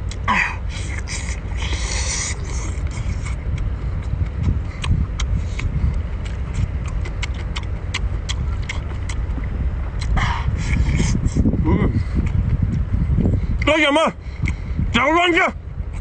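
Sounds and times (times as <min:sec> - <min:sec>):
wet chewing: 0:00.0 - 0:13.3
low rumble: 0:00.0 - 0:16.0.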